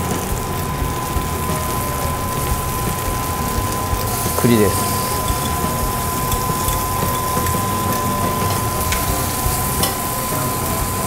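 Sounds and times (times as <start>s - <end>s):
food sizzling in butter: 0.0s - 11.0s
steady high-pitched tone: 0.0s - 11.0s.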